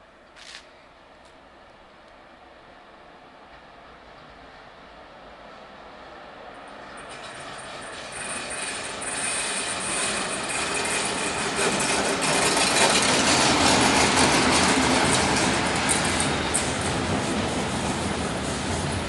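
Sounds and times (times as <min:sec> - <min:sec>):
train rolling noise: 0:00.0 - 0:19.0.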